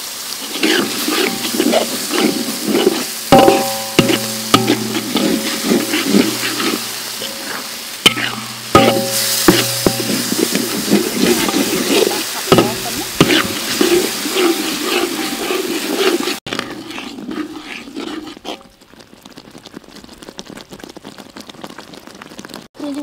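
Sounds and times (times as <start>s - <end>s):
ladle scraping wok: 0.0s - 18.8s
paste sizzling in wok: 0.0s - 22.6s
sauce bubbling: 0.0s - 22.7s.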